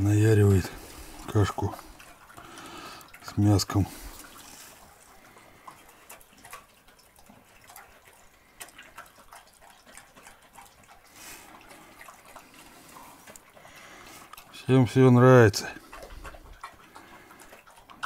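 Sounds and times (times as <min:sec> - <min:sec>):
dog lapping wet food: 0:00.0 - 0:18.0.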